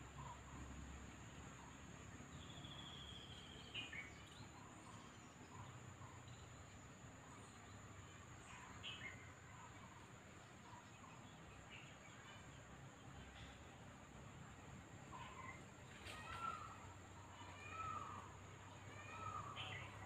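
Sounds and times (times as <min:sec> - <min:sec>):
insect drone: 0:00.0 - 0:20.0
bird chirping: 0:01.4 - 0:13.7, 0:15.0 - 0:20.0.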